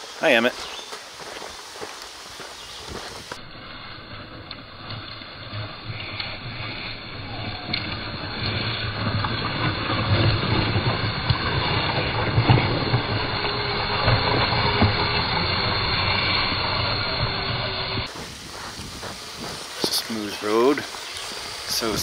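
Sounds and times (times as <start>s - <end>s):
small electric motors: 1.1s - 22.0s
toy truck wheels rumbling and rattling: 3.2s - 22.0s.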